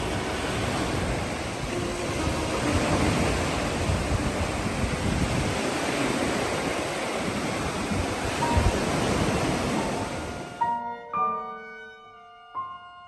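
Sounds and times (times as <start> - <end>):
wind along the shore: 0.0 - 10.8
sea waves rushing: 0.0 - 10.9.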